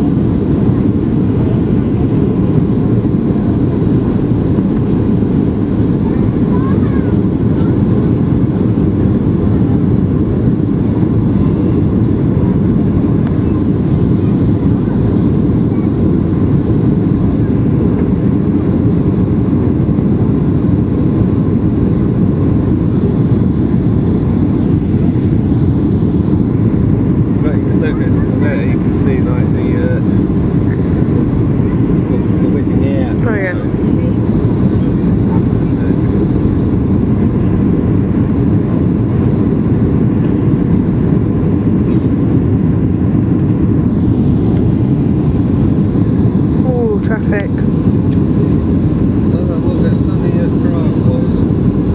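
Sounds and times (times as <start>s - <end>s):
aircraft cabin engine rumble: 0.0s - 51.9s
airflow over fuselage: 0.0s - 51.9s.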